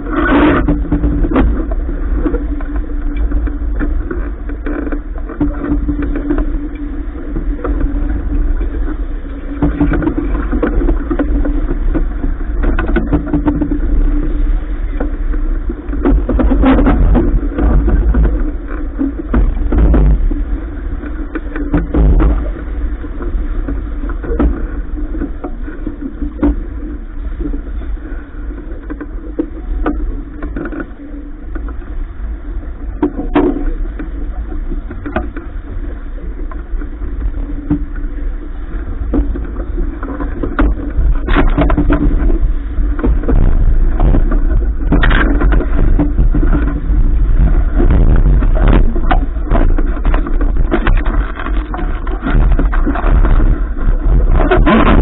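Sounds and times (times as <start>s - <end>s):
low rumble aboard a yacht: 0.0s - 55.0s
water splashing: 0.0s - 55.0s.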